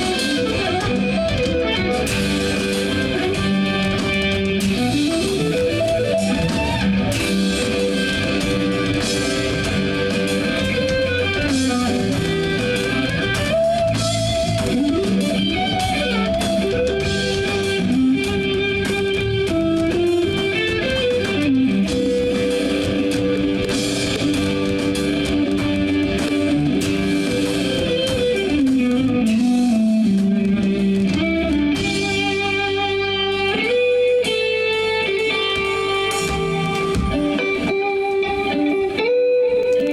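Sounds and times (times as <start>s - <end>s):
electric guitar melody with bends: 0.0s - 39.9s
live band playing instrumental: 0.0s - 39.9s.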